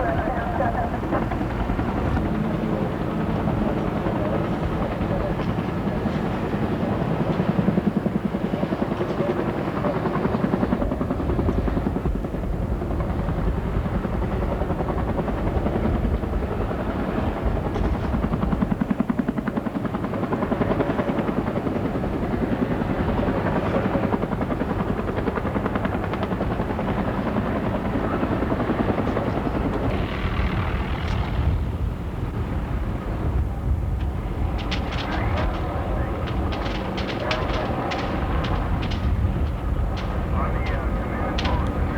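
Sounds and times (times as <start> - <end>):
helicopter rotor chop: 0.0 - 41.9.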